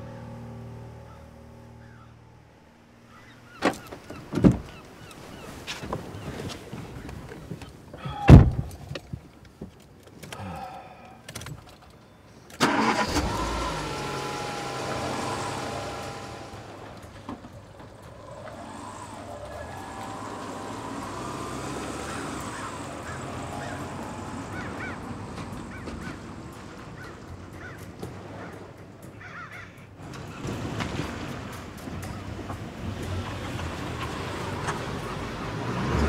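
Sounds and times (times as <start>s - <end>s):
car engine starting and idling: 0.0s - 7.8s, 12.5s - 36.0s.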